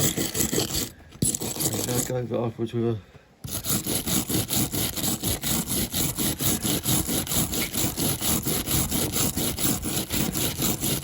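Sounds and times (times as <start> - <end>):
wire brush scrubbing metal: 0.0 - 2.2, 3.4 - 11.0.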